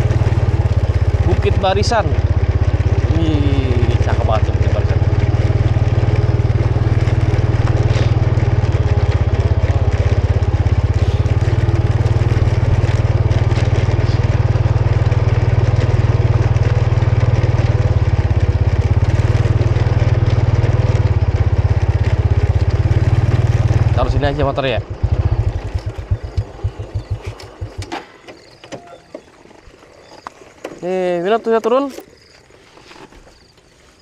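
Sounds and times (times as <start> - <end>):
scooter engine running: 0.0 - 33.5
tyres rolling over dirt: 0.0 - 34.0.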